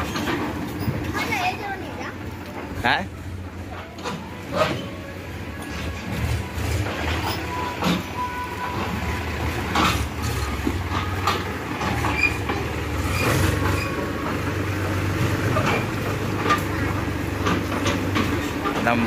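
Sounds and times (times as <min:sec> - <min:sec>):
tractor diesel engine running: 0:00.0 - 0:19.0
trailer rattling and clanking: 0:00.0 - 0:19.0.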